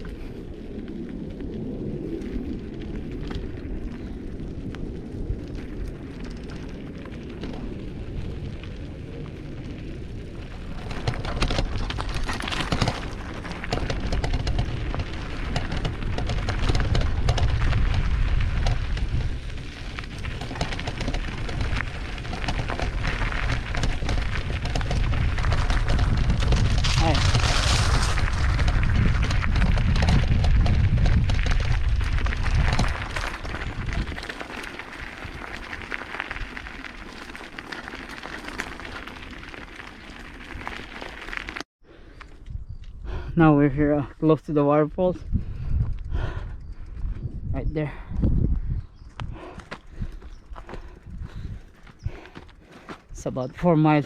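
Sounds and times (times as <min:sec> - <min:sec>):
wind rumbling on microphone: 0:00.0 - 0:54.0
mountain bike rattling on rocks: 0:02.2 - 0:41.7, 0:43.9 - 0:54.0.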